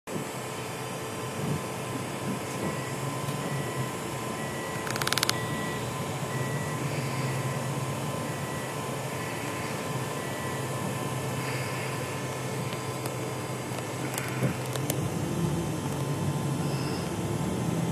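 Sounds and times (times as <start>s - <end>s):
vehicle engine hum and cabin noise: 0.1s - 17.9s.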